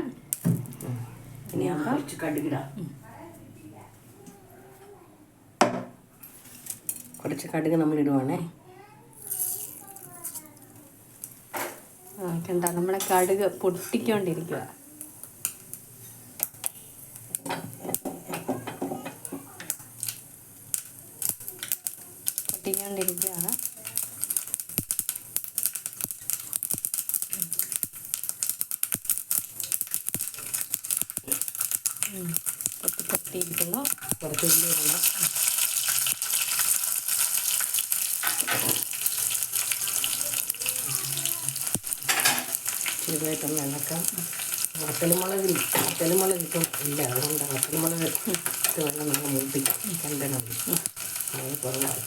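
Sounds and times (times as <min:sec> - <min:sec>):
mustard seeds popping in hot oil: 0:00.2 - 0:02.6, 0:09.2 - 0:52.0.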